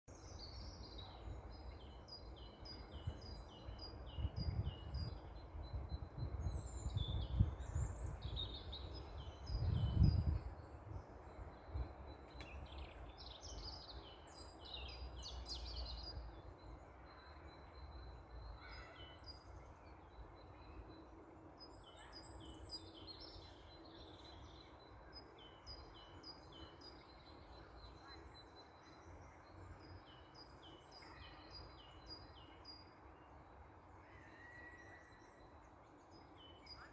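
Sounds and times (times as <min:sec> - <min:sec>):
songbirds chirping: 0:00.1 - 0:36.9.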